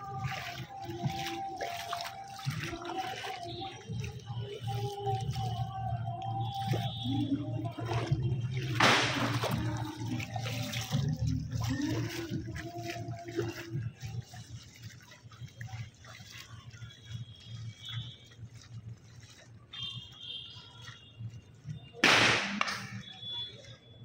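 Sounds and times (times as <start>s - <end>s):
river water splashing: 0.0s - 24.0s
rush of water: 0.0s - 24.0s.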